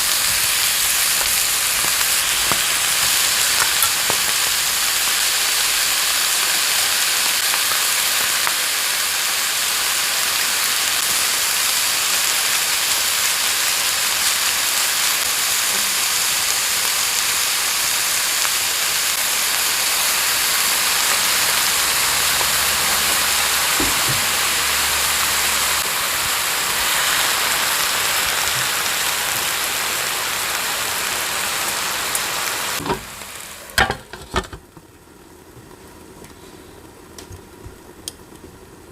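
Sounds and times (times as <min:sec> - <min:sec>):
lettuce sizzling in a pan: 0:00.0 - 0:36.2.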